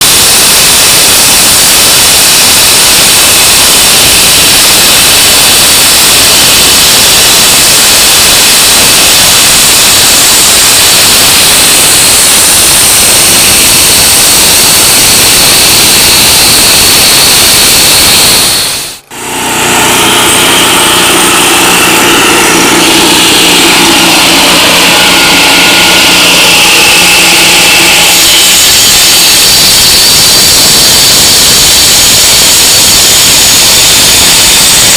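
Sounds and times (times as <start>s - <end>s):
engine drone: 0.0s - 34.9s
heavy construction machinery: 0.0s - 34.9s.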